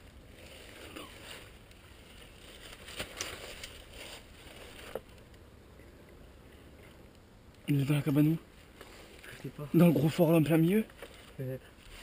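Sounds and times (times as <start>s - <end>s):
rustling through undergrowth: 0.0s - 12.0s.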